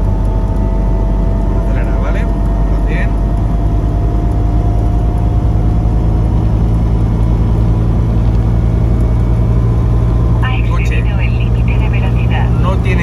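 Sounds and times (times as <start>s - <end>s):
car engine and road noise drone: 0.0s - 13.0s.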